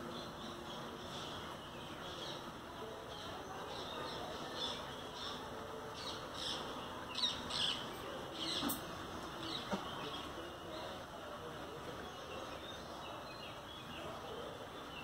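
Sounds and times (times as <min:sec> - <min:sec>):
birds chirping: 0:00.0 - 0:15.0
outdoor background noise: 0:00.0 - 0:15.0.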